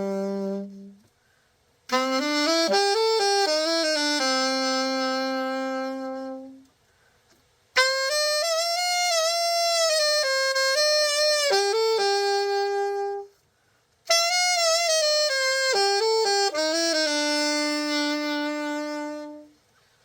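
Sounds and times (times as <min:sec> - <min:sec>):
solo alto saxophone: 0:00.0 - 0:20.0.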